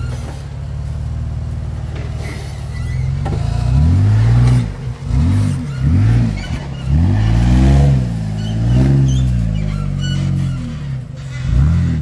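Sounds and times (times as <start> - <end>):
engine revving: 2.2 - 12.0.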